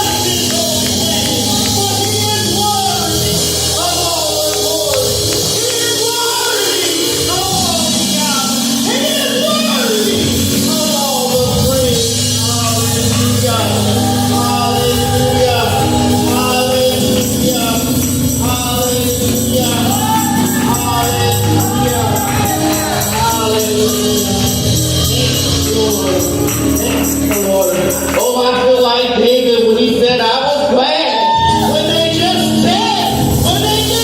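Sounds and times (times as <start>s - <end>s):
tambourine shaking: 0.0s - 29.4s.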